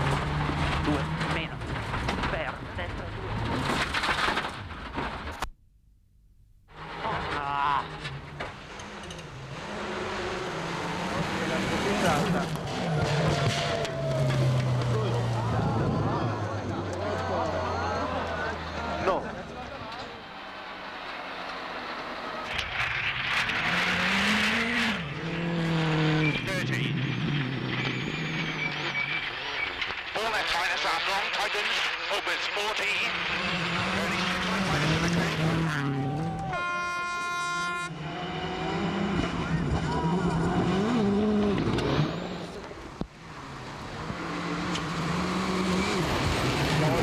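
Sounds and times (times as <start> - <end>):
rally car engine: 0.0 - 5.5, 6.7 - 47.0.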